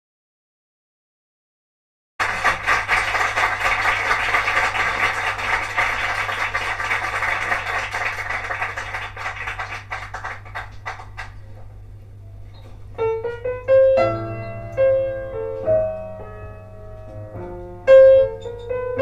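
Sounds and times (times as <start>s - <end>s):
mains hum: 2.2s - 19.0s
record surface hiss: 2.2s - 19.0s.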